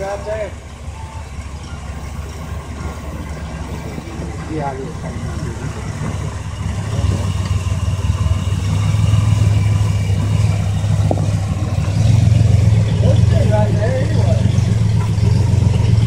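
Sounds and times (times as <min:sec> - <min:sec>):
engine rumbling under load: 0:00.0 - 0:16.0.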